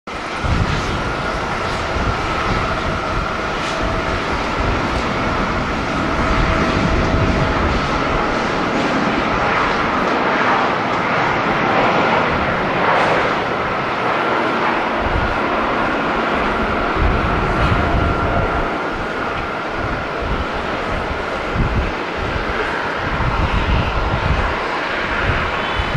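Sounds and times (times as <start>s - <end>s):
jet airliner taking off: 0.1s - 25.9s
wind buffeting microphone: 0.1s - 25.9s.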